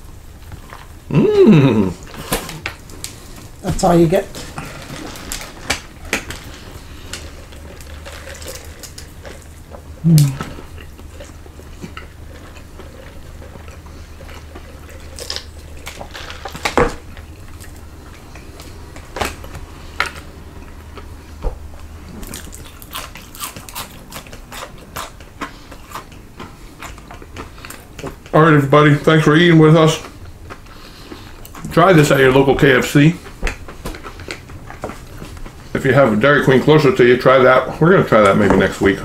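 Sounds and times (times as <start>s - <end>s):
mouth-closed hum: 0.0s - 39.0s
chewing food: 2.0s - 39.0s.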